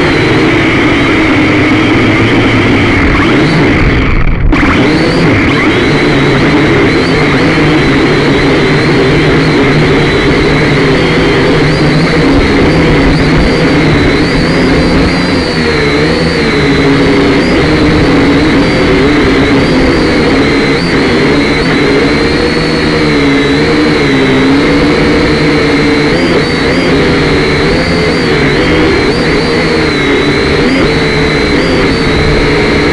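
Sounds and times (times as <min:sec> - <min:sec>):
drone motors whining: 0:00.0 - 0:32.9.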